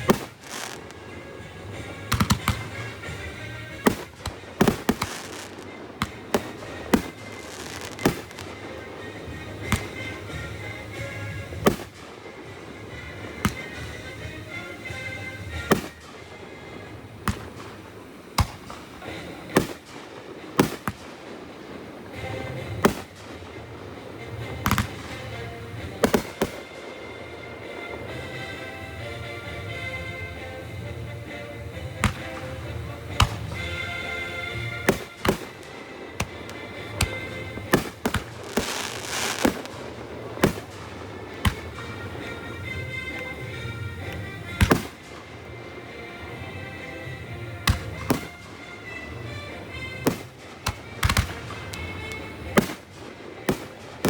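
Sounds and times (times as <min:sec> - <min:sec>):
background music: 0:00.0 - 0:54.0
fireworks bangs: 0:00.0 - 0:54.0.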